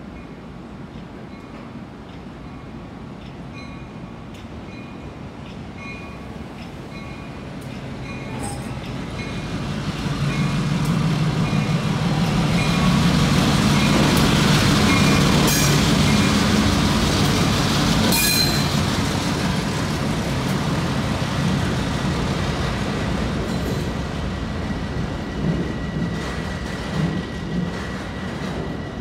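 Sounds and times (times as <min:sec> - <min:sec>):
diesel locomotive engines: 0:00.0 - 0:29.0.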